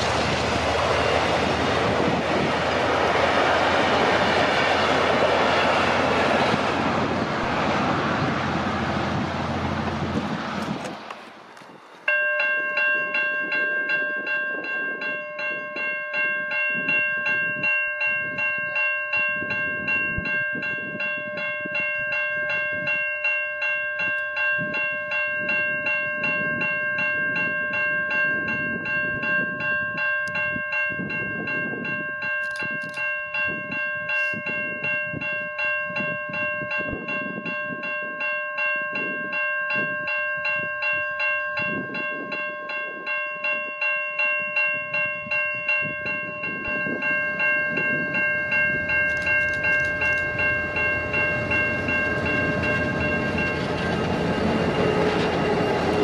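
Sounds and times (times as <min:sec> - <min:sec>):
level crossing warning bells: 0:00.0 - 0:10.1, 0:12.0 - 0:56.0
train running by: 0:00.0 - 0:56.0.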